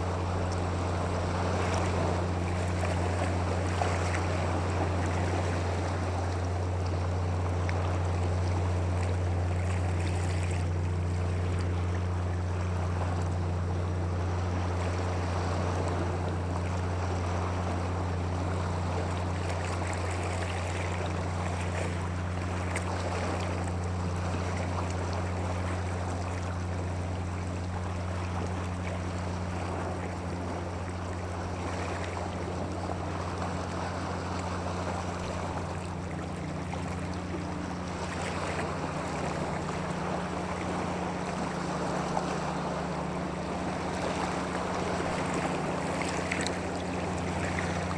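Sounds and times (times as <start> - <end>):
constant low hum: 0.0 - 47.9
water rushing: 0.0 - 47.9.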